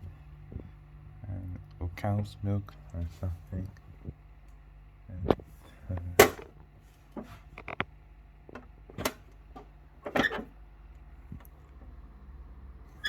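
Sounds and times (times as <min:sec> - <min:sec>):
fridge hum: 0:00.0 - 0:13.0.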